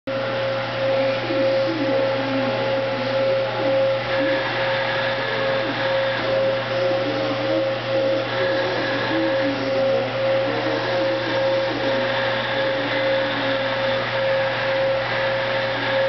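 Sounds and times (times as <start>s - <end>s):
constant hum: 0.1s - 16.0s.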